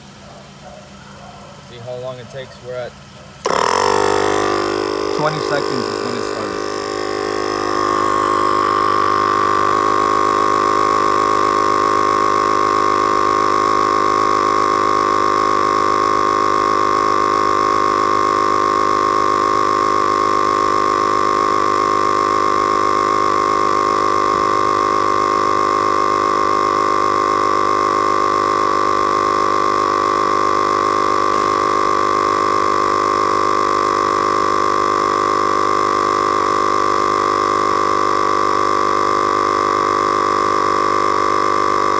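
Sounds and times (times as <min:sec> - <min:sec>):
tire inflator compressor buzzing: 0:00.0 - 0:00.7, 0:01.6 - 0:41.9.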